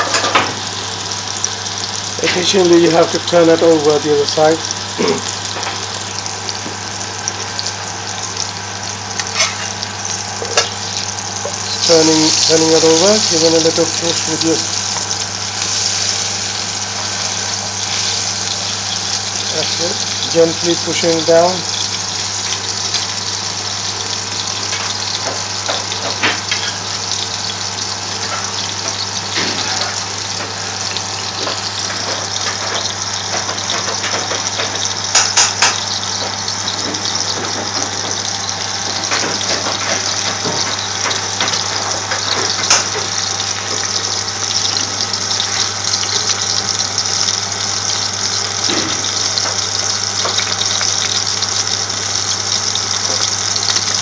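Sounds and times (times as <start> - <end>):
patties sizzling in oil: 0.0 - 54.0.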